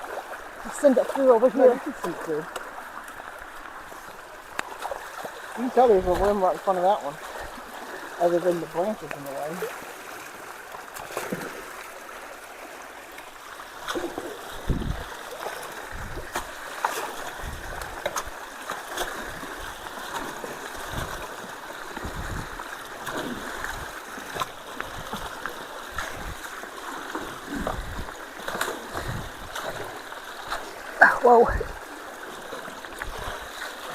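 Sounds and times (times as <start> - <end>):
sharp splashes and knocks: 0.0 - 12.2, 13.2 - 33.9
water rushing through culvert: 0.0 - 33.9.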